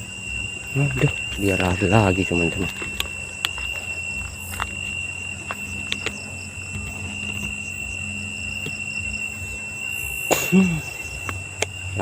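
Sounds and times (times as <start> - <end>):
crickets droning: 0.0 - 12.0.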